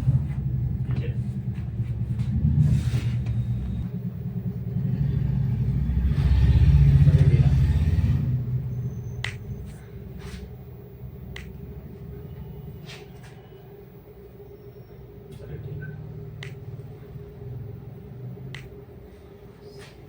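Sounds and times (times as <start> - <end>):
low hum and rumble: 0.0 - 20.0.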